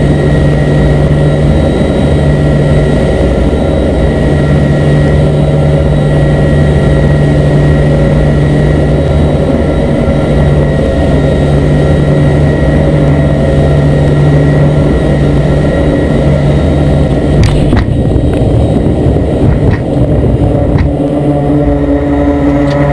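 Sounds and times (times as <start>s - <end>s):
turboprop engines droning: 0.0s - 22.9s.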